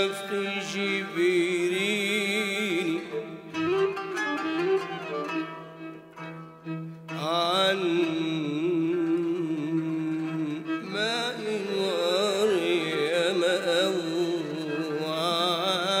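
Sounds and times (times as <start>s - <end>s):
man chanting ornamented melody: 0.0s - 4.0s, 7.1s - 16.0s.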